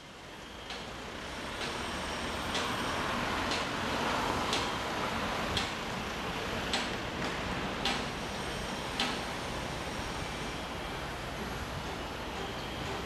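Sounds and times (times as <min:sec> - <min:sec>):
traffic-like rumble and hiss: 0:00.0 - 0:13.0.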